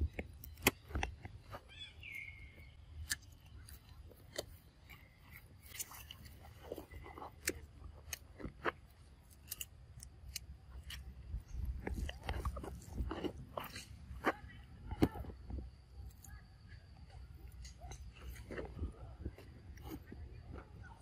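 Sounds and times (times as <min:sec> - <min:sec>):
monkeys chewing cucumber crunches: 0:00.0 - 0:21.0.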